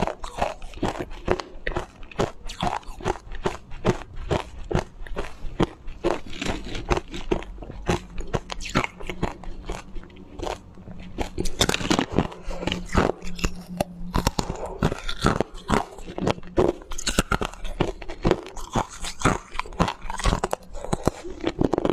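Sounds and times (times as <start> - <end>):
ice being chewed with crunches: 0.0 - 21.9.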